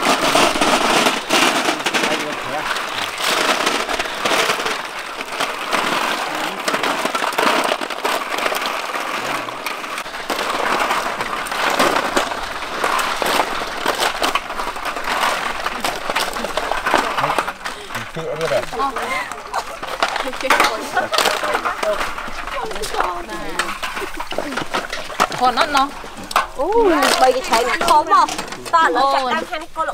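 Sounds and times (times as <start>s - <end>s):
snail shells clattering: 0.0s - 29.9s.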